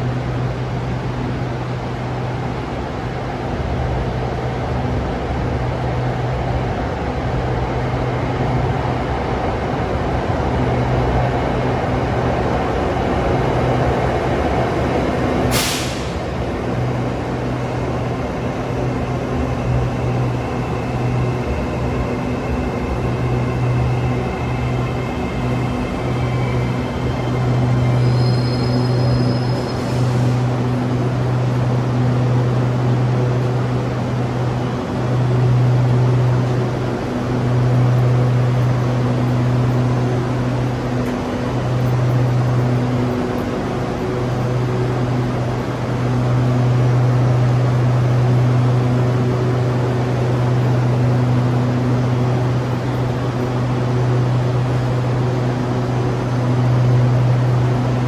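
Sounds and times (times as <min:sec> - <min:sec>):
electric train humming: 0:00.0 - 0:58.0.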